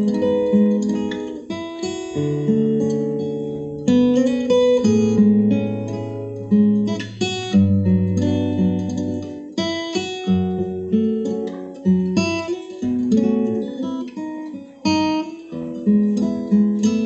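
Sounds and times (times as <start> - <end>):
fingerstyle acoustic guitar: 0.0 - 17.0.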